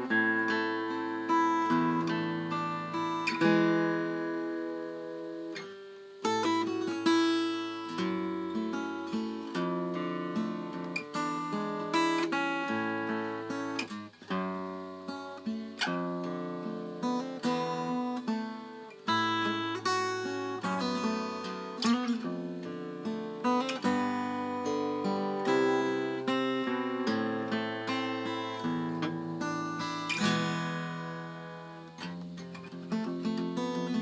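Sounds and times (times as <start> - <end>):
acoustic guitar chords: 0.0 - 34.0.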